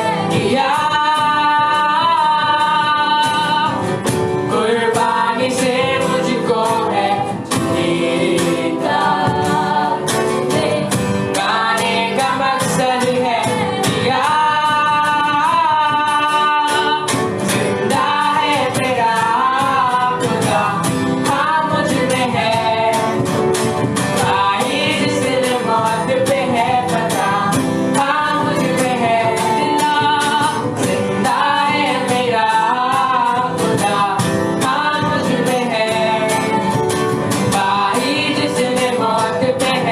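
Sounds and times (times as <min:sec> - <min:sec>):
guitar and instruments: 0:00.0 - 0:39.9
person singing: 0:00.0 - 0:39.9.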